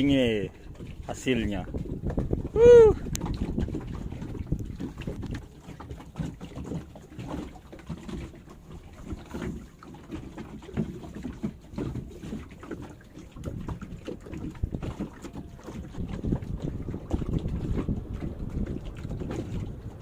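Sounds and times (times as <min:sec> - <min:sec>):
wind rumble on microphone: 0:00.0 - 0:09.7, 0:10.6 - 0:20.0.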